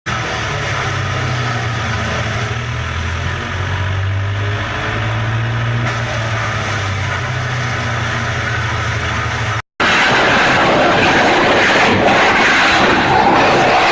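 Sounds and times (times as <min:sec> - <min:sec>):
strong low hum: 0:00.1 - 0:13.9
wood chipper running: 0:00.1 - 0:13.9.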